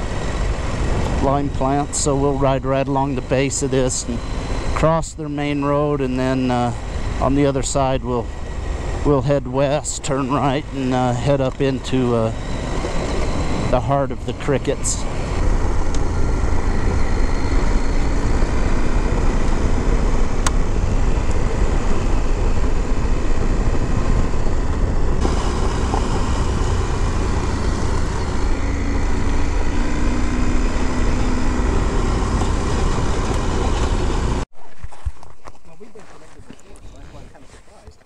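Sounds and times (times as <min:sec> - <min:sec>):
motorcycle engine and tyre noise: 0:00.0 - 0:38.0.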